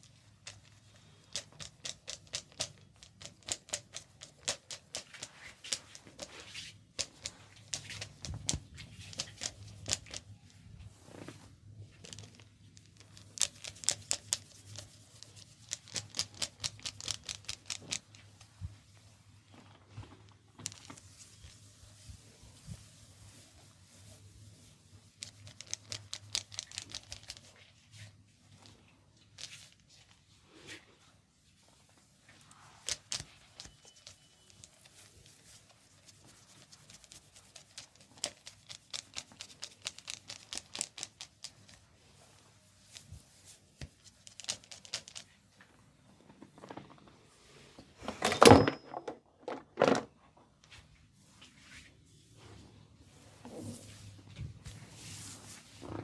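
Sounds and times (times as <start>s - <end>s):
hands slapping and rubbing head: 0.0s - 47.2s, 50.6s - 56.0s.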